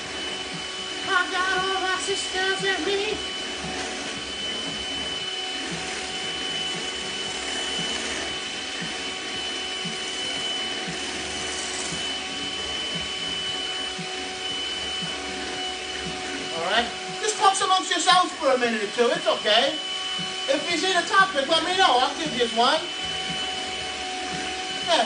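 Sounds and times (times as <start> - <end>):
electric hand mixer whipping cream: 0.0 - 25.0.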